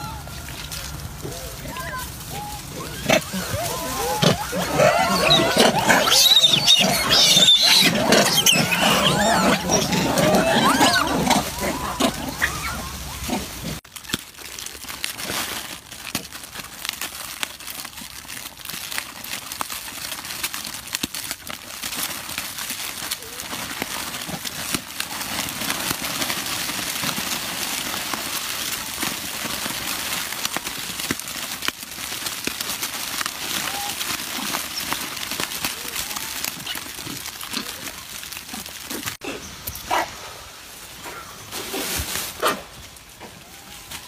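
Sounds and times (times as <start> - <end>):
plastic wrappers crinkling: 0.0 - 39.2.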